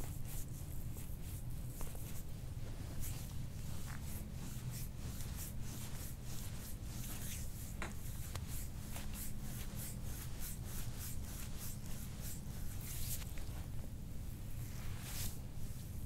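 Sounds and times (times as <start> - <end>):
hands rubbing skin: 0.0 - 13.8, 14.6 - 15.4.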